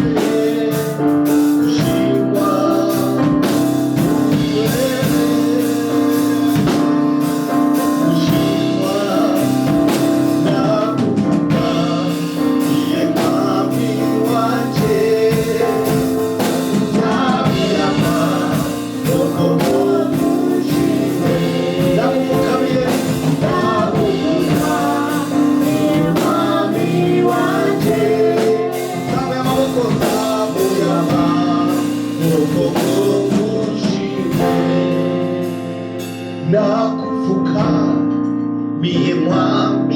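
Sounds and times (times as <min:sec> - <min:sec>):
gospel worship music: 0:00.0 - 0:39.9.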